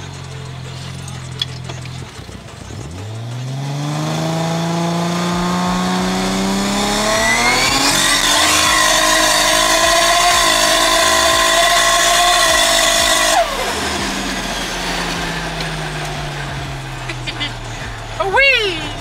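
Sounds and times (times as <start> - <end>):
car engine revving under load: 0.0 - 19.0.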